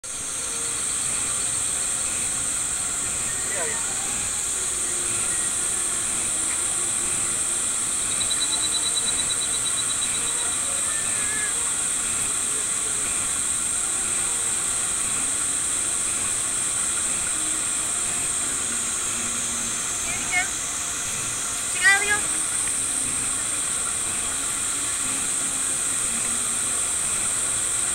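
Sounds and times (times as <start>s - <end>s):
fast string of ticks: 0.1s - 27.9s
high-pitched hiss: 0.1s - 27.9s.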